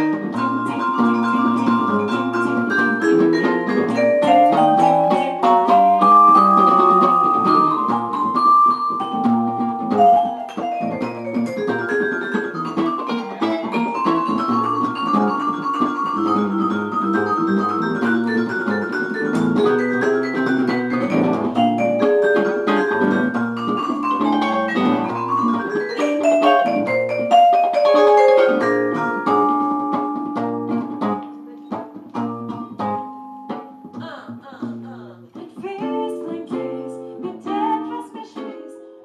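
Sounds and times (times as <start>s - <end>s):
band playing music: 0.0s - 34.9s
percussion hits: 0.0s - 36.0s
quick melodic notes: 0.0s - 38.1s.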